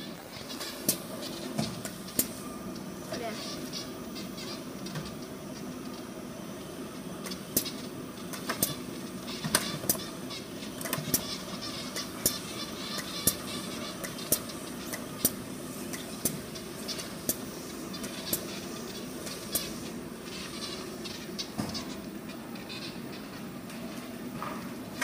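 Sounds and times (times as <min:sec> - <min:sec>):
machine mechanical hum: 0:00.0 - 0:25.0.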